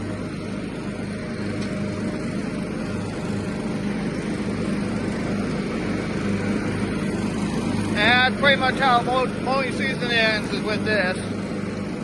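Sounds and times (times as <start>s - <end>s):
riding lawnmower engine running: 0.0s - 12.0s.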